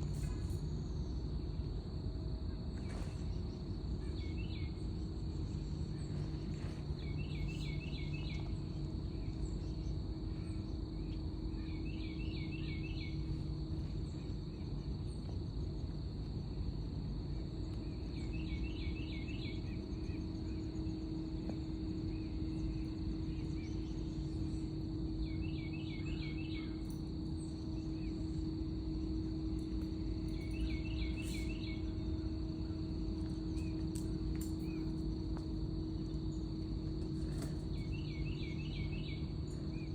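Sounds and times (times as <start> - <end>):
crickets trilling: 0.0 - 39.9
low steady hum: 0.0 - 39.9.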